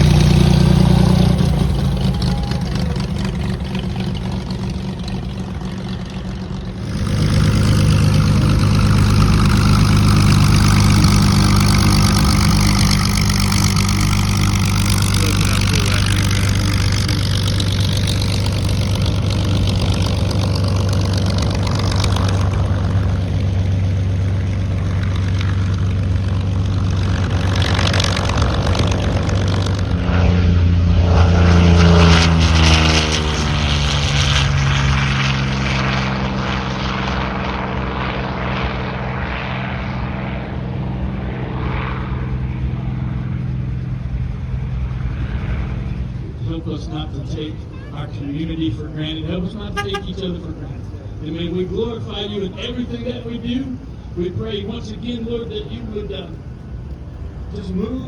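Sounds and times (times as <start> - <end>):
propeller airplane flying by: 0.0 - 58.0.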